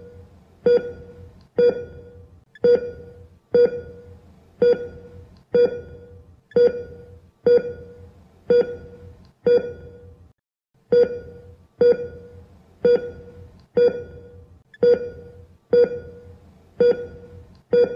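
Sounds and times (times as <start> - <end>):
patient monitor pulse beeps: 0.0 - 10.2, 10.9 - 17.9
low operating room hum: 0.0 - 17.9.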